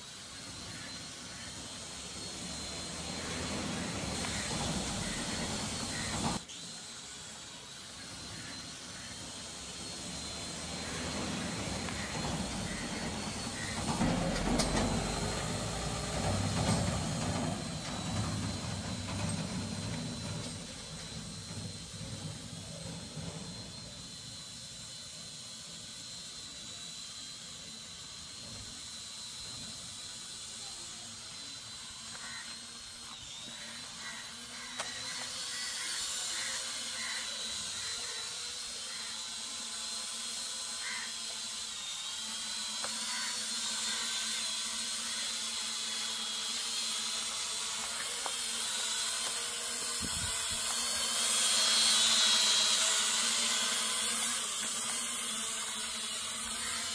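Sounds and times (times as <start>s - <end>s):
drone propellers whining: 0.0s - 56.9s.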